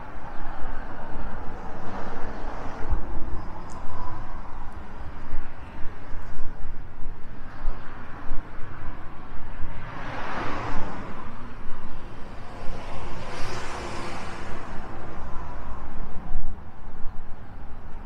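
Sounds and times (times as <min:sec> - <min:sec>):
cars passing: 0:00.0 - 0:18.0
steady low rumble: 0:00.0 - 0:18.0.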